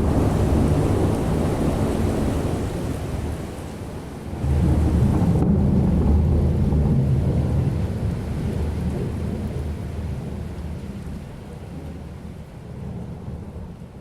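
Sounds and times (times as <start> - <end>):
rain falling: 0.0 - 14.0
thunder rumbling: 0.0 - 14.0.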